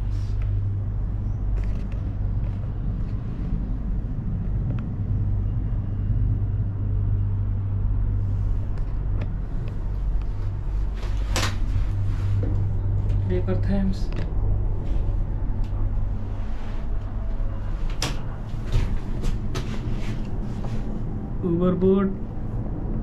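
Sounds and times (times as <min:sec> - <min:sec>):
cable car hum and rumble: 0:00.0 - 0:23.0.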